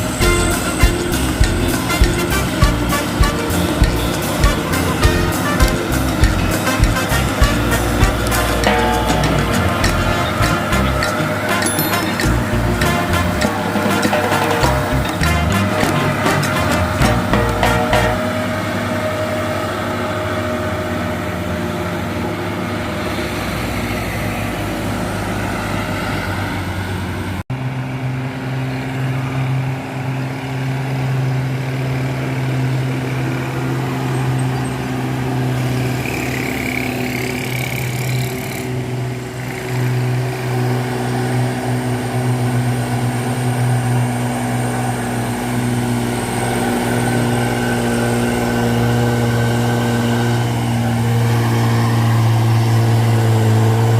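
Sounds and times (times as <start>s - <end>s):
heavy truck engine pulling under load: 0.0s - 53.9s.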